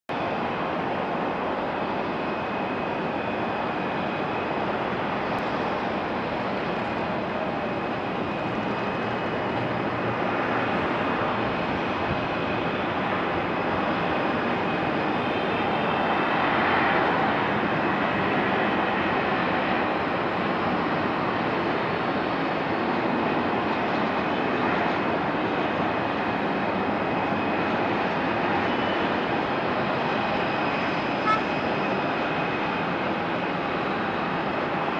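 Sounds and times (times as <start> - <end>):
jet engines rushing with high whine: 0.1 - 34.9.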